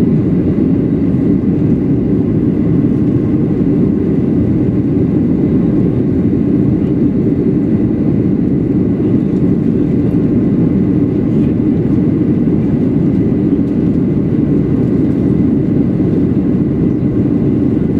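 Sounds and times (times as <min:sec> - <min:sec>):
jet engine rumble in cabin: 0:00.0 - 0:17.9.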